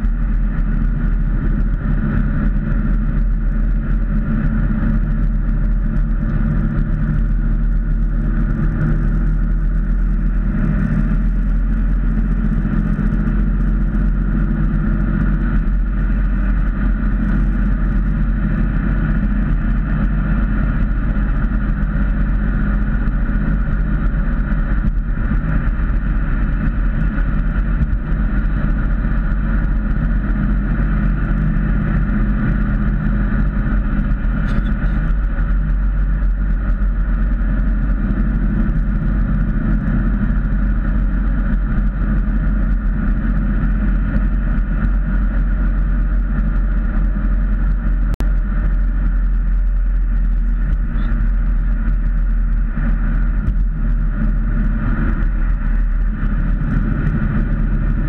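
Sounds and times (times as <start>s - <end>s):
car engine drone: 0.0s - 58.0s
road and wind noise: 0.0s - 58.0s.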